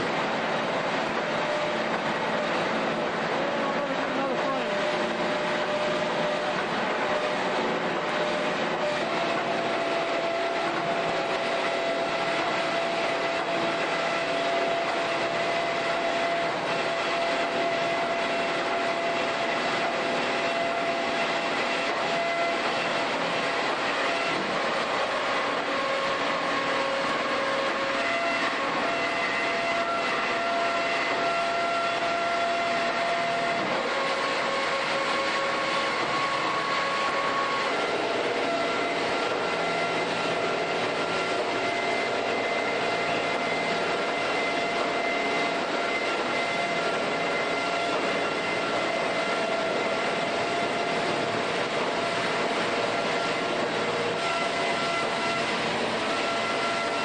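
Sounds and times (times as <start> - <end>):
bandsaw cutting steel: 0.0 - 57.0
high whines: 0.0 - 57.0.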